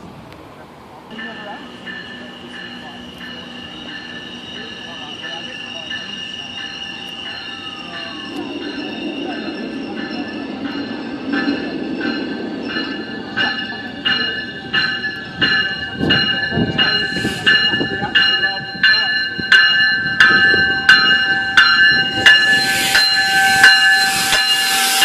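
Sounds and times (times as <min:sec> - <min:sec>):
train rumble: 0:00.0 - 0:25.0
train wheel squeal: 0:01.1 - 0:25.0.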